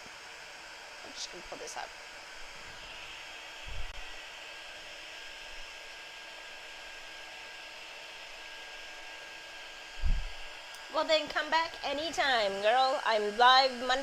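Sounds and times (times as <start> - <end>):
heat tool blowing hot air: 0.0 - 14.0.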